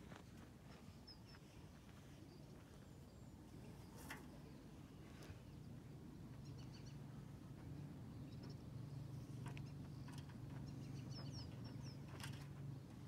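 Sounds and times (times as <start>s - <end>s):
small birds chirping: 1.0s - 13.0s.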